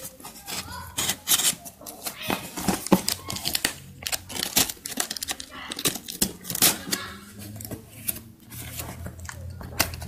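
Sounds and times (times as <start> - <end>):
tape ripping: 0.0 - 8.2
cardboard rustling: 0.0 - 10.0.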